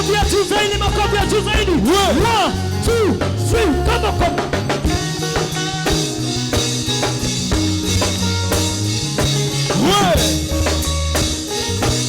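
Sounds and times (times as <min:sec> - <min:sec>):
bass: 0:00.0 - 0:12.0
drum kit beat: 0:00.0 - 0:12.0
keyboard chords: 0:00.0 - 0:12.0.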